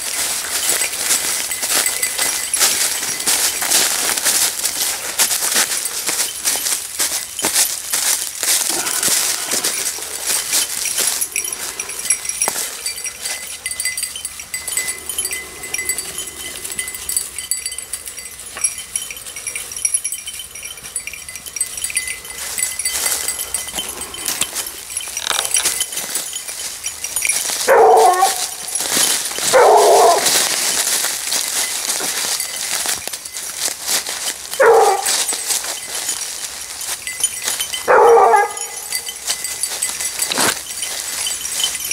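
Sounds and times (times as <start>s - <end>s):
hounds baying: 0.0s - 41.9s
rustling dry leaves underfoot: 0.0s - 41.9s.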